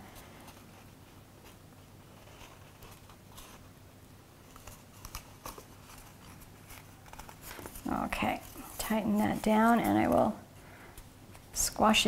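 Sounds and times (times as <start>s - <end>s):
faint rustling: 0.0s - 11.6s.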